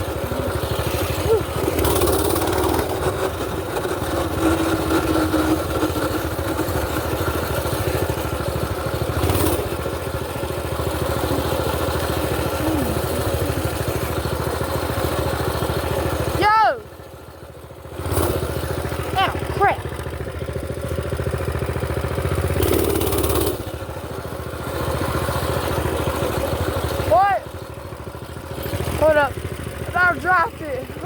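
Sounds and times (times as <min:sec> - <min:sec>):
mini bike engine running: 0:00.0 - 0:31.0.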